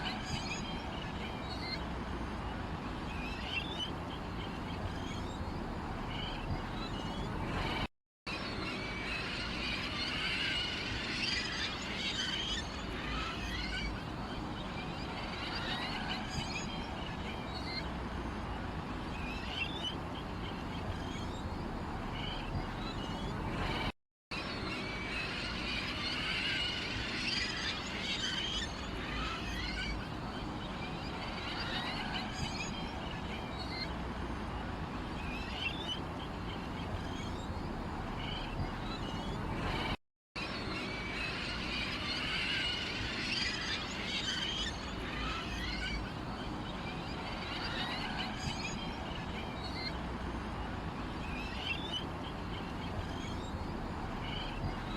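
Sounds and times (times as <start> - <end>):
small birds chirping: 0.0 - 7.9, 11.2 - 23.9, 27.1 - 54.9.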